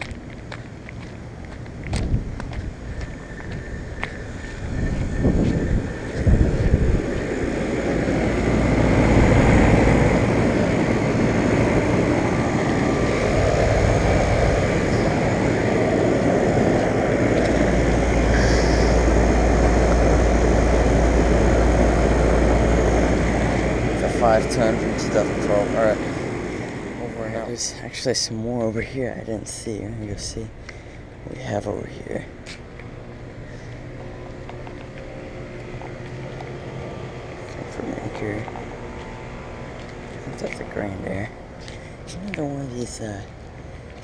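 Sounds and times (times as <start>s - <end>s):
deep steady hum: 0.0s - 44.0s
air conditioner fan whoosh: 0.1s - 44.0s.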